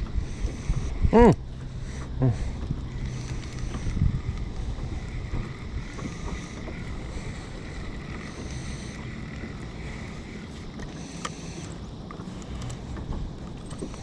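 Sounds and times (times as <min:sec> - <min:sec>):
water washing along kayak hull: 0:00.0 - 0:14.0
wind rumbling on microphone: 0:00.0 - 0:14.0.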